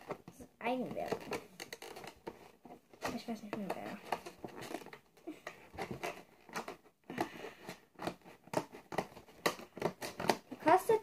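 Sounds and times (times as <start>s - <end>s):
packaging crackling and rustling: 0.0s - 11.0s.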